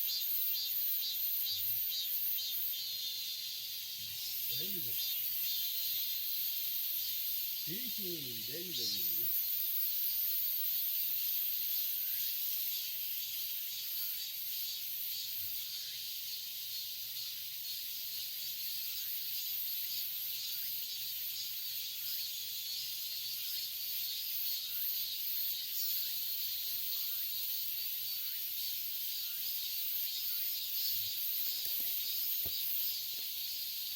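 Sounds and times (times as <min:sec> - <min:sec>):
cicadas droning: 0:00.0 - 0:33.9.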